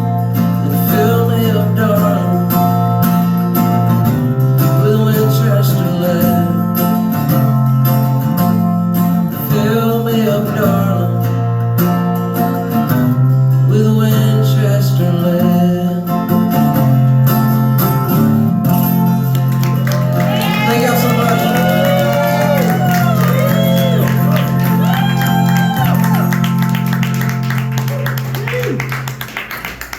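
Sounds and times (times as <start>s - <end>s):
acoustic guitar strumming chords: 0.0s - 27.9s.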